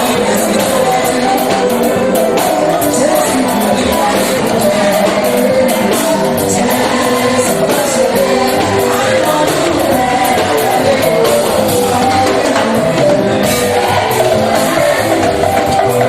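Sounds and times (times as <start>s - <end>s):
choir singing with band: 0.0s - 16.0s
steady beat: 0.0s - 16.0s.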